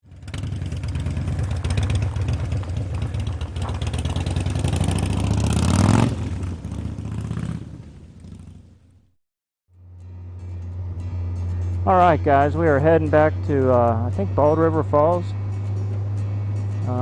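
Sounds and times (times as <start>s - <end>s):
motorcycle engine accelerating: 0.0s - 9.2s, 9.8s - 17.0s.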